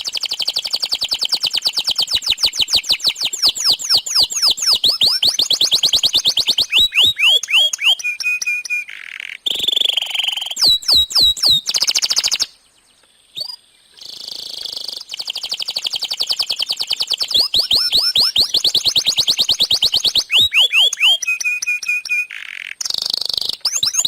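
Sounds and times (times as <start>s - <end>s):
canary singing: 0.0s - 24.0s.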